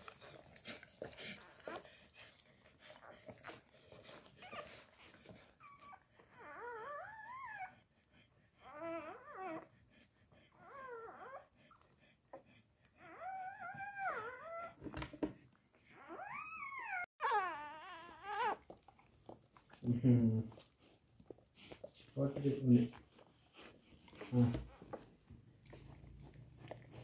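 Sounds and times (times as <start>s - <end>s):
puppies crying and whimpering: 0.0s - 27.0s.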